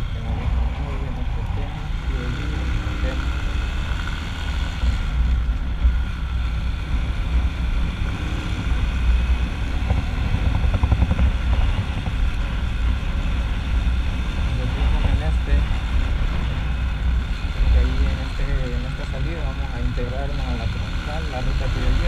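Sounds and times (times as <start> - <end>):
motorcycle engine cruising: 0.0 - 22.0
wind buffeting microphone: 0.0 - 22.0.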